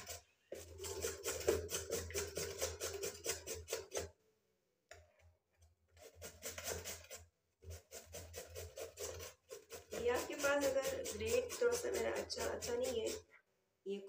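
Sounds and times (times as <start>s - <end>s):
hand grater rasping vegetables: 0.0s - 4.1s, 6.0s - 13.3s.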